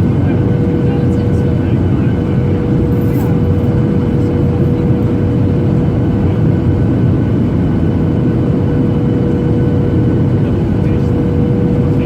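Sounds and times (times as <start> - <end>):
jet engines and airflow roar: 0.0 - 12.0.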